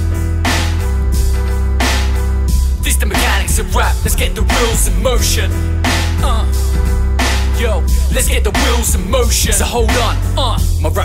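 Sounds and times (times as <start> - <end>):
held chords: 0.0 - 10.8
deep steady bass: 0.0 - 11.0
hip hop beat: 0.0 - 11.0.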